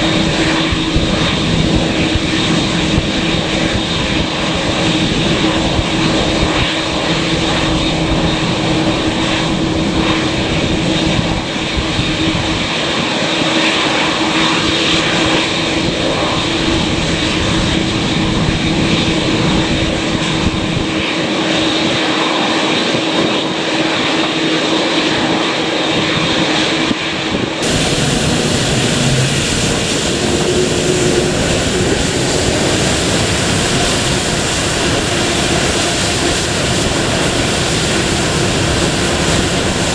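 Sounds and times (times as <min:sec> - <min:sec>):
airliner engines running: 0:00.0 - 0:39.9.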